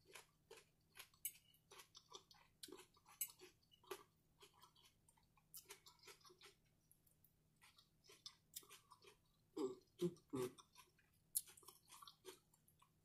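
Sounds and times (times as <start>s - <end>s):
chewing food: 0.0s - 13.0s.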